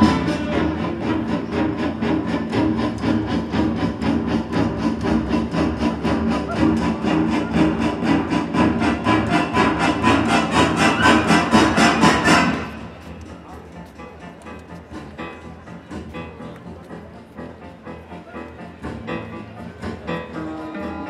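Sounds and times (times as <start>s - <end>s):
sustained low orchestral notes: 0.0s - 21.0s.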